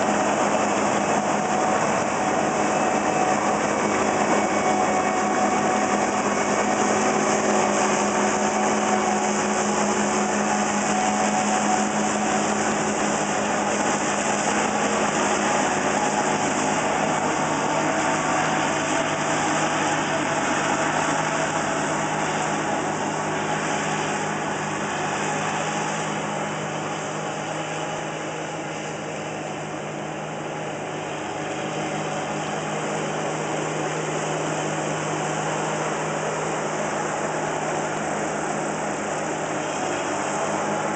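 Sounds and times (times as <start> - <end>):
combine harvester engine hum: 0.0 - 40.9.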